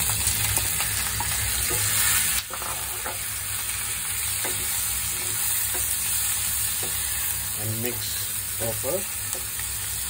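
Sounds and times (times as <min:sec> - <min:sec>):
shrimp sizzling in a frying pan: 0:00.0 - 0:10.0.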